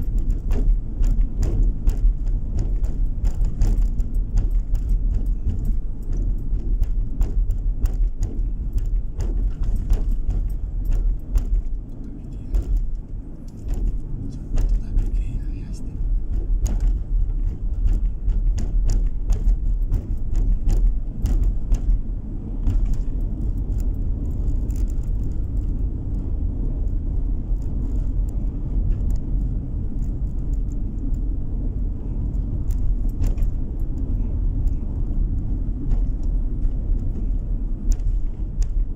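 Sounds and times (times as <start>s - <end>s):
car road and engine rumble: 0.0s - 38.9s
small clicks and rattles: 0.0s - 38.9s.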